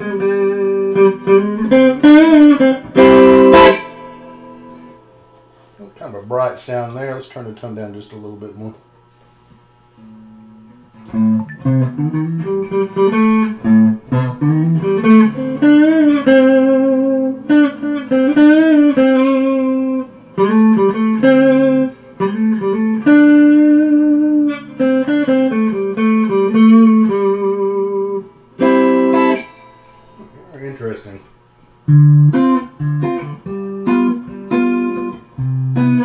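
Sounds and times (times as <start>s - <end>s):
clean electric guitar: 0.0s - 6.0s, 9.4s - 36.0s.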